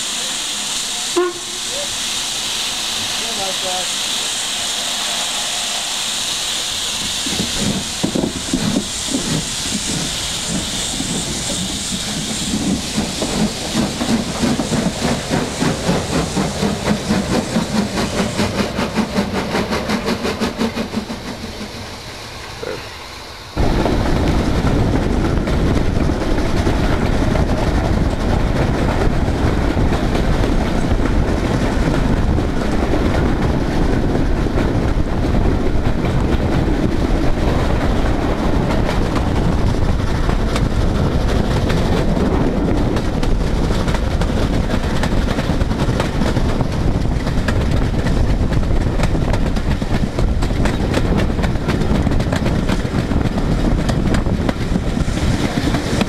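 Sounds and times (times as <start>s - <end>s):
steam train rumble: 0.0s - 56.0s
coach wheels clattering over rails: 7.2s - 22.0s, 23.6s - 56.0s.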